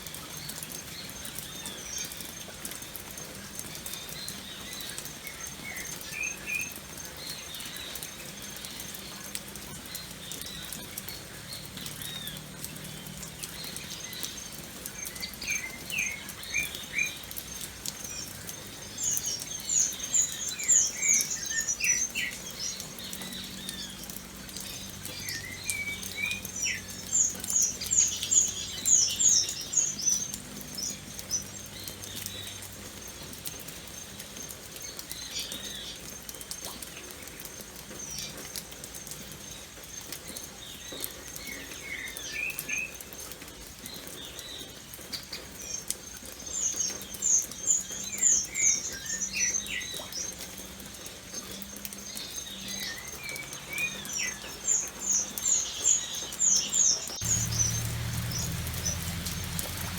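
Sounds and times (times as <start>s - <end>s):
light rain pattering: 0.0s - 59.9s
birds chirping: 0.2s - 43.0s, 44.0s - 59.9s.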